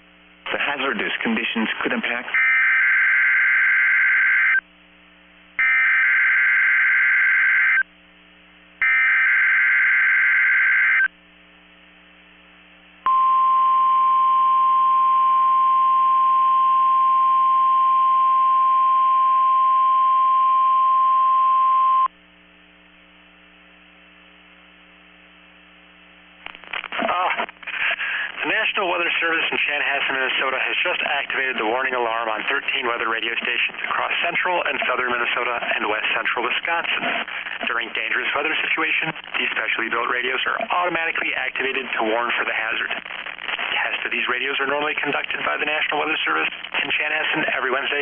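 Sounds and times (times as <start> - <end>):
low radio hiss: 0.0 - 48.0.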